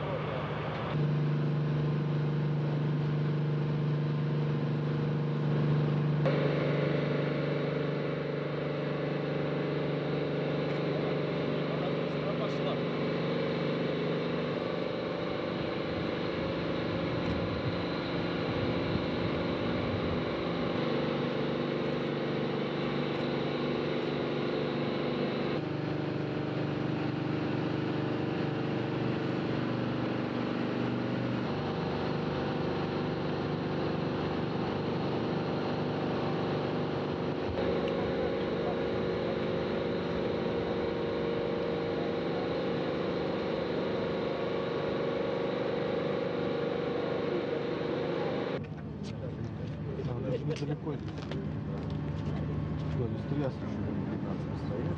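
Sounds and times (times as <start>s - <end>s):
heavy machinery humming: 0.0s - 54.9s.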